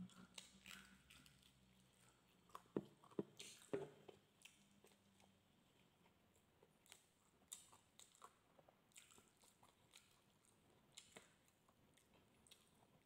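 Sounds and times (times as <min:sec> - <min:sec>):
chewing crispy pork skin: 0:00.0 - 0:13.0.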